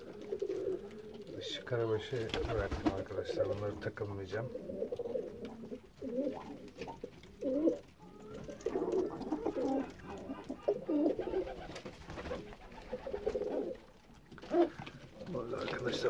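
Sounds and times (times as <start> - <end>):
pigeon cooing: 0.0 - 3.5, 4.3 - 16.0.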